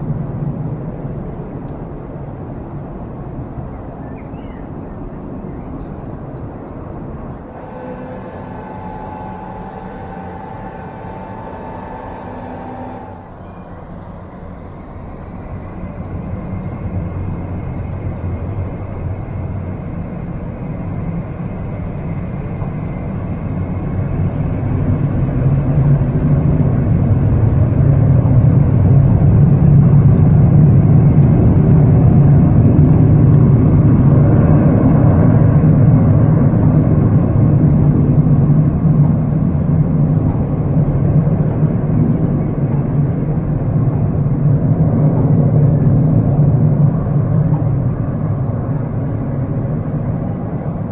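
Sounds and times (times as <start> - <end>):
jet engine rumble: 0.0 - 50.9.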